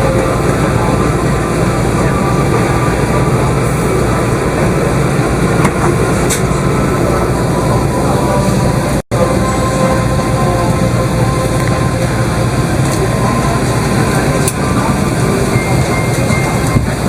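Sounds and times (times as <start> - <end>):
aircraft cabin rumble and hiss: 0.0 - 17.0
faint steady tones: 0.0 - 17.0.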